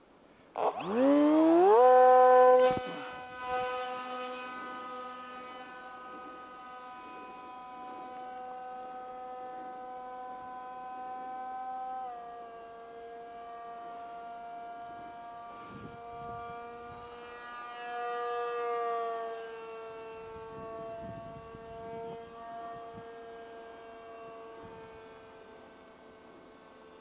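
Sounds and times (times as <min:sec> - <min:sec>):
model plane motor whine: 0:00.0 - 0:27.0.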